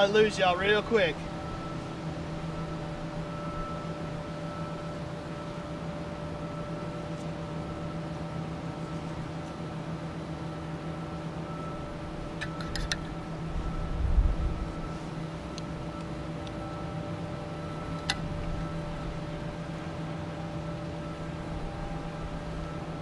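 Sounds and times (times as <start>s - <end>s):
machine hum with pitched tones: 0.0s - 23.0s.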